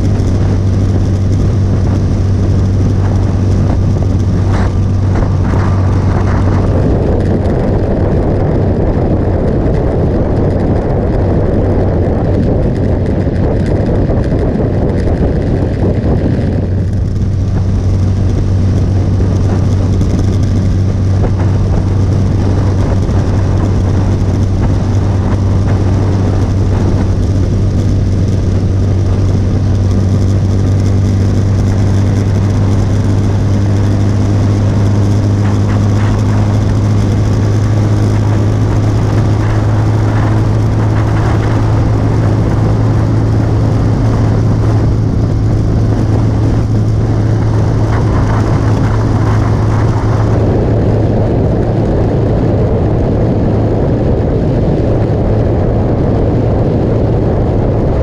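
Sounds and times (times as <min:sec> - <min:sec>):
motorcycle engine cruising: 0:00.0 - 0:58.0
wind and road noise rushing: 0:00.0 - 0:58.0.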